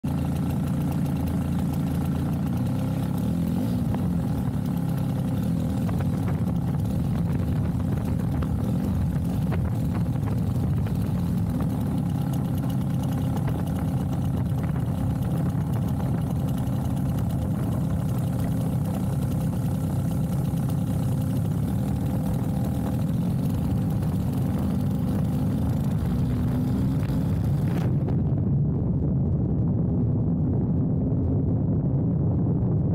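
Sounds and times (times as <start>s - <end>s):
two-stroke model plane engine running: 0.0s - 28.3s.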